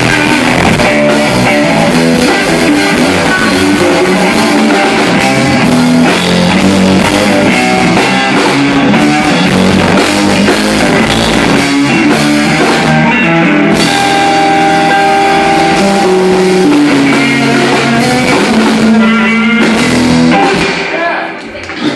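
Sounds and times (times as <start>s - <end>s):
bass guitar: 0.0s - 21.9s
drum kit: 0.0s - 21.9s
electric guitar: 0.0s - 21.9s.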